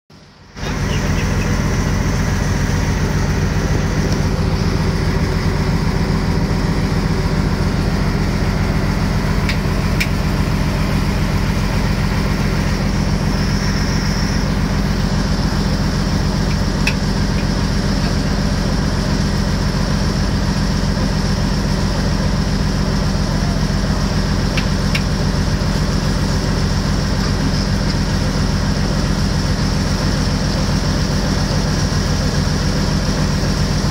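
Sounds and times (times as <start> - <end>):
boat engine droning: 0.1 - 33.9.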